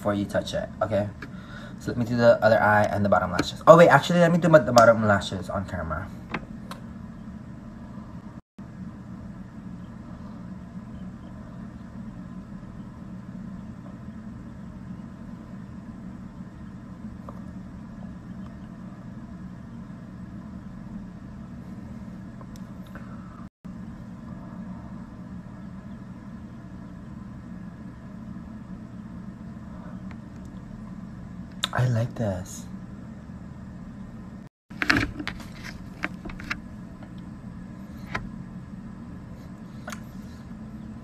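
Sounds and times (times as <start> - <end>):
ceiling fan humming: 0.0 - 41.0.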